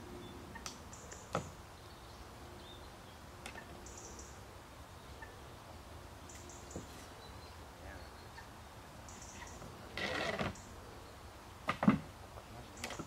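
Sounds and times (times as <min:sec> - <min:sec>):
low outdoor hiss: 0:00.0 - 0:13.0.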